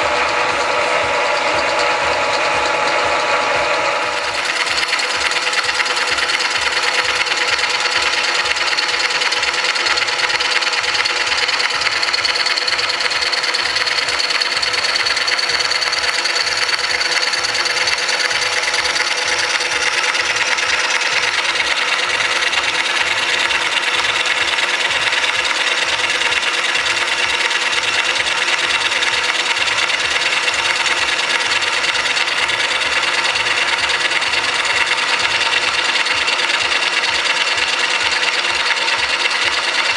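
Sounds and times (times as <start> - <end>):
milling machine cutting metal: 0.0 - 39.9
motor and gearing whine: 0.0 - 39.9.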